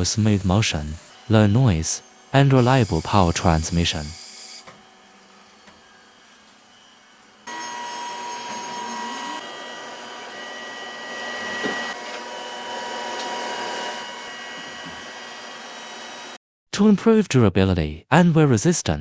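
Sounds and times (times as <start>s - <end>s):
gear-cutting machine whine: 1.0s - 16.4s.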